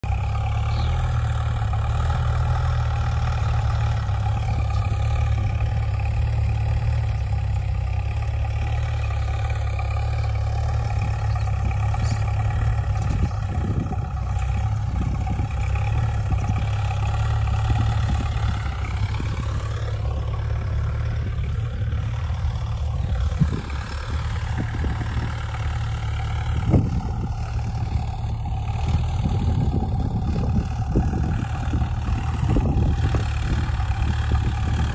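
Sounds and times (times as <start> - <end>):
tractor diesel engines running: 0.0 - 34.9.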